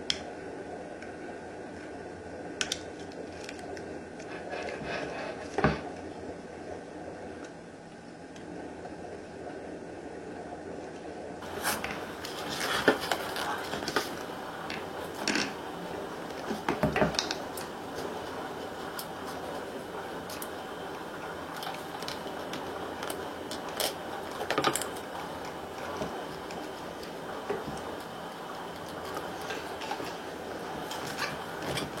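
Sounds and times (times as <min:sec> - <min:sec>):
vinyl film crackling and scraping: 0:01.0 - 0:06.2, 0:10.8 - 0:32.0.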